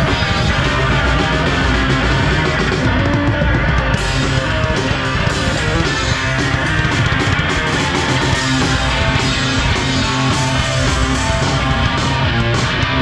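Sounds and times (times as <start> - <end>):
guitar rock music: 0.0 - 13.0.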